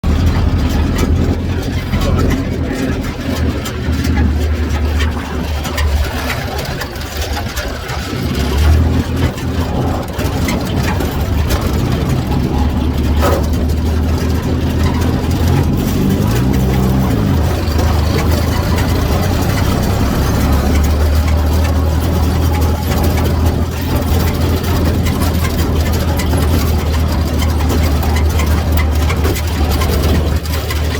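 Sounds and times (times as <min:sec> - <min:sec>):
truck engine idling: 0:00.0 - 0:30.9.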